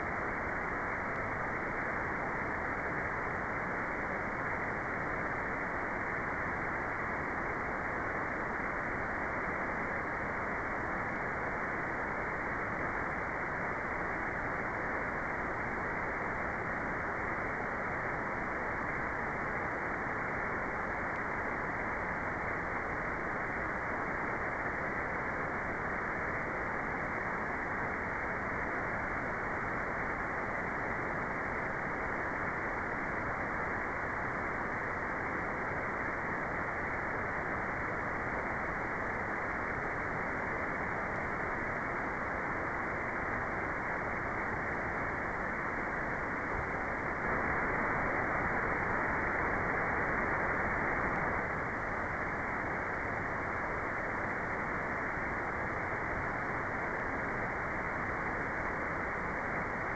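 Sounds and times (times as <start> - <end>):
muffled white noise hiss: 0.0 - 59.9.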